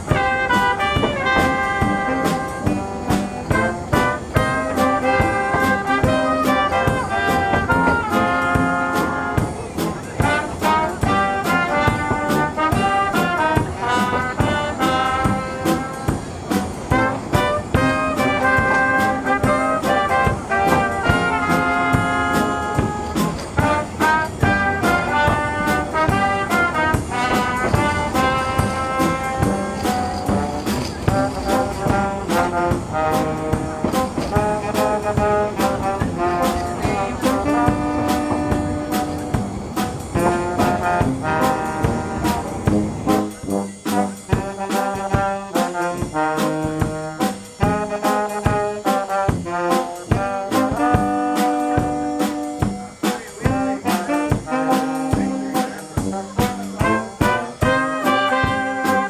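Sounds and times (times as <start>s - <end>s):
brass music with steady beat: 0.0s - 59.0s.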